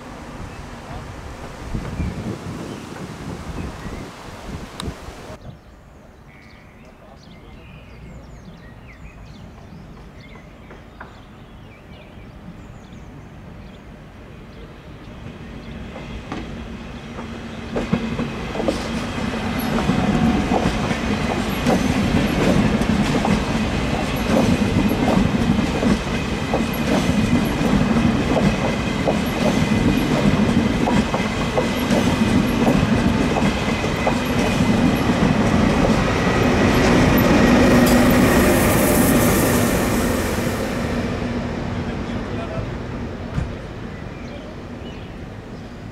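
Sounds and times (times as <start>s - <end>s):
electric locomotive passing: 0.0s - 5.4s, 13.3s - 45.9s
train passing at speed: 0.0s - 5.4s, 8.5s - 45.9s.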